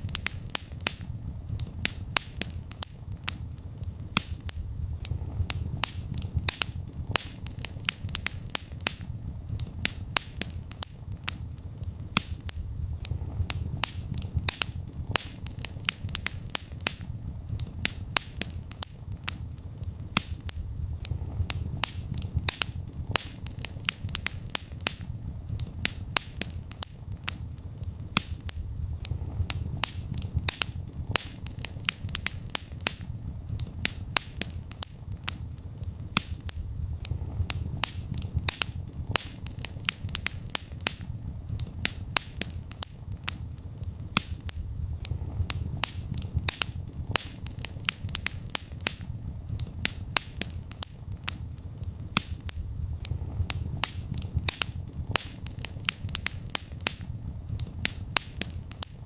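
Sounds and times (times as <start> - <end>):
fire crackling and popping: 0.0 - 59.0
rumble of flames: 0.0 - 59.0.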